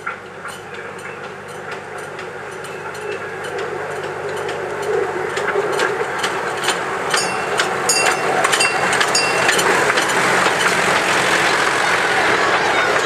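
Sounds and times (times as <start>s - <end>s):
miniature train running past: 0.0s - 13.0s
wheels clicking: 0.0s - 13.0s.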